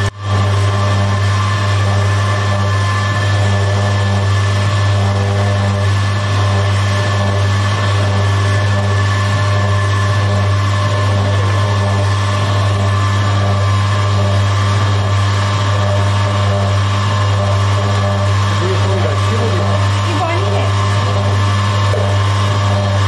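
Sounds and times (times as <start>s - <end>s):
dough mixer motor humming: 0.0s - 23.0s.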